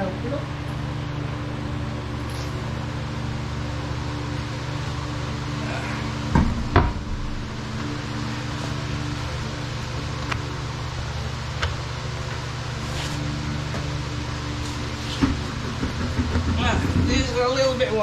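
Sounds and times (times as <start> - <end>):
steady low hum with tones: 0.0 - 18.0.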